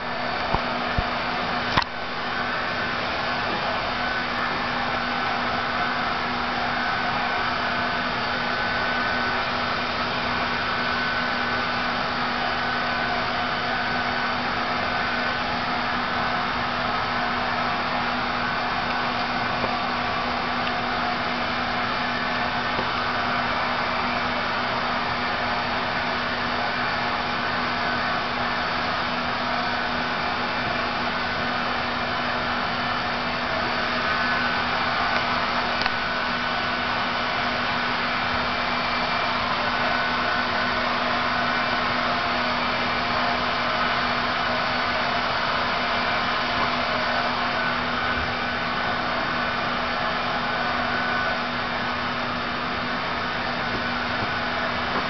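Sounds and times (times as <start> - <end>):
constant low hum: 0.0 - 55.0.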